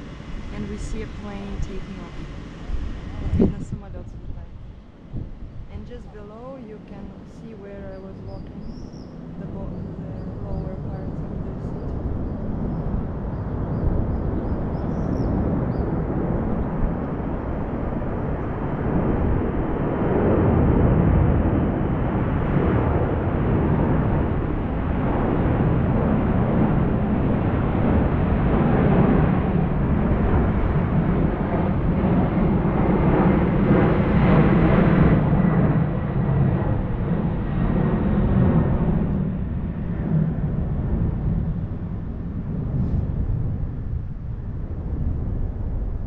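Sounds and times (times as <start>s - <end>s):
loud low outdoor rumble: 0.0s - 46.0s.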